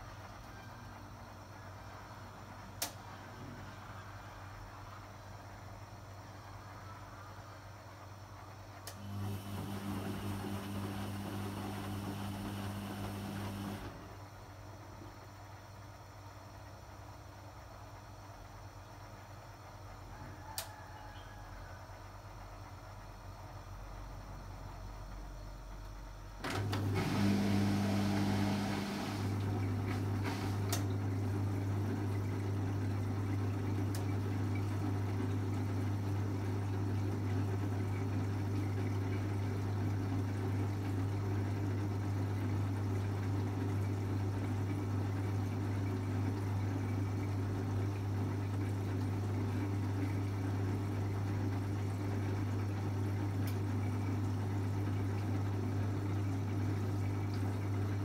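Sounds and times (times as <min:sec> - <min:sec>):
drain pump humming: 0:08.0 - 0:21.4, 0:22.1 - 0:58.0.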